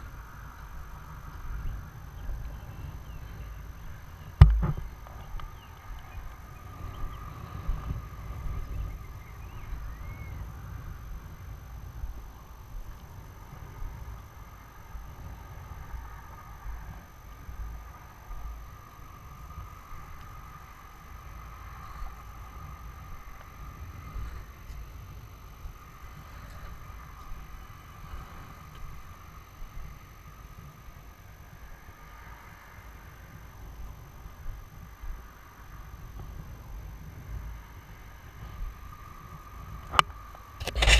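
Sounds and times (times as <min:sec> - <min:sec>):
faint steady hiss: 0:00.0 - 0:40.9
wind buffeting microphone: 0:00.0 - 0:40.9.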